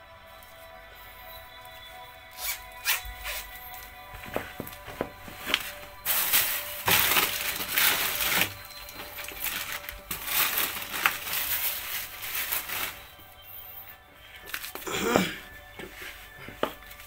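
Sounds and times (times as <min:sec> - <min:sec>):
clothes rustling and crumpling: 0:00.1 - 0:17.0.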